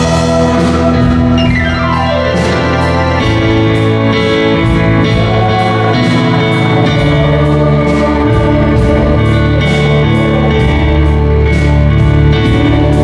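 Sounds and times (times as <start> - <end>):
electronic keyboard playing chords: 0.0 - 13.0
guitar: 0.0 - 13.0.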